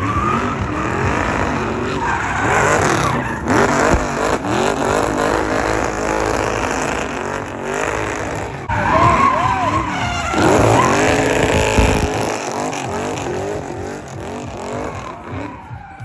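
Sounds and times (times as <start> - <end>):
car engine running: 0.0 - 16.0
car tyres squealing: 0.0 - 16.0.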